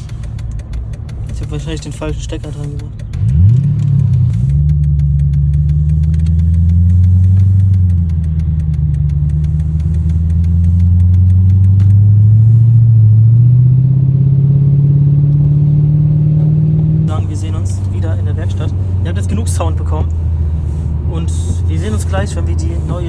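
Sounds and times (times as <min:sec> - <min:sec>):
loud deep engine idle drone: 0:00.0 - 0:23.0.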